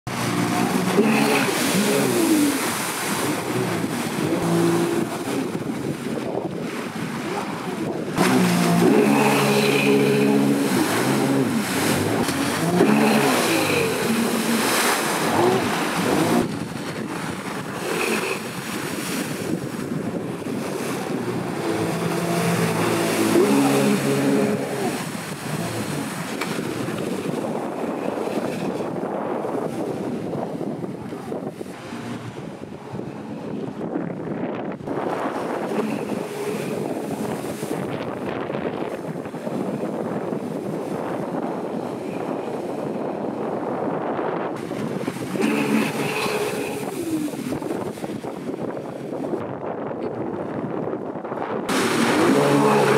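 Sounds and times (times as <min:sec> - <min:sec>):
rush of water jet and spray: 0:00.1 - 0:33.8, 0:34.5 - 0:43.3, 0:44.6 - 0:49.2, 0:51.7 - 0:52.9
jet ski engine revving: 0:00.1 - 0:48.3, 0:51.6 - 0:52.9.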